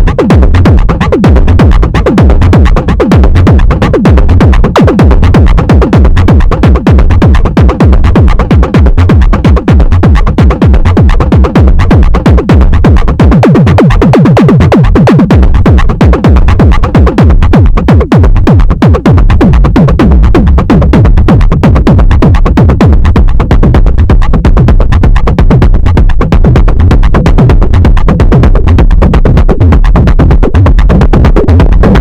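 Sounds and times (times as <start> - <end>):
heavy kick drum pulse: 0.0 - 32.0.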